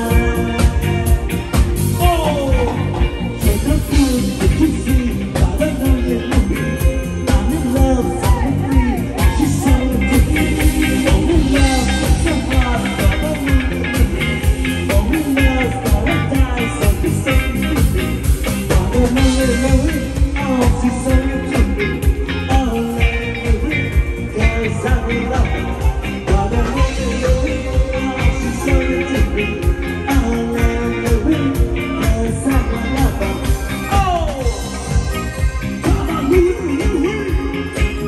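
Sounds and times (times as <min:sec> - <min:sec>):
live pop band: 0:00.0 - 0:38.0
man singing into microphone: 0:00.0 - 0:38.0.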